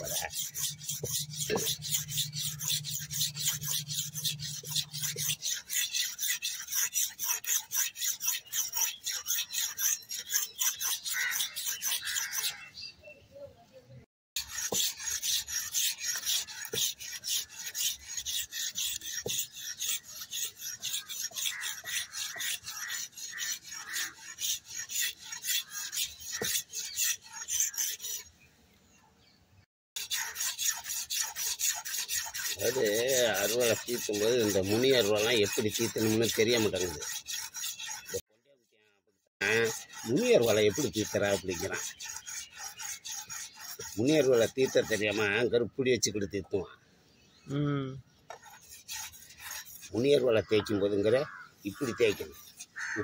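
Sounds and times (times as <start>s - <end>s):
hand file scraping steel edge: 0.0s - 12.7s, 14.4s - 28.4s, 30.0s - 38.3s, 39.4s - 45.7s, 48.3s - 53.0s.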